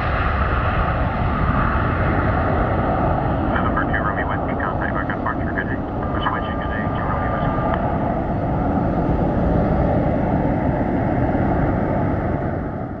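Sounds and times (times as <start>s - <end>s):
jet engines rumbling at takeoff: 0.0s - 13.0s.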